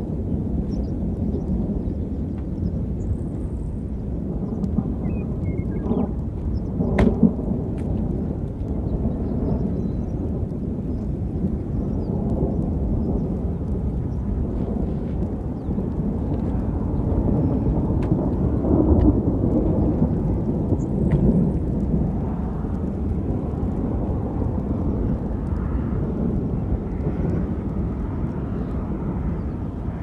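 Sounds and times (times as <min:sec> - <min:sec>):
rolling thunder: 0:00.0 - 0:30.0.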